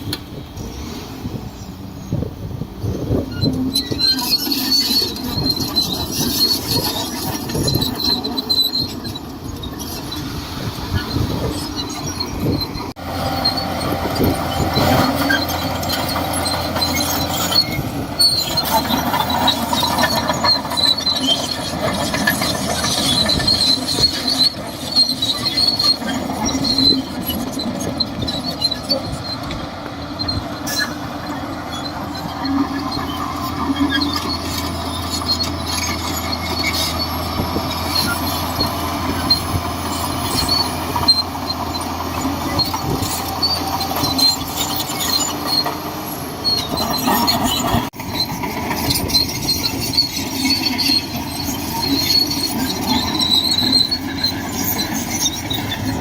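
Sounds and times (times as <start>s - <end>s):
bulldozer engine running: 0.0s - 56.0s
steel tracks squealing and clanking: 0.0s - 56.0s.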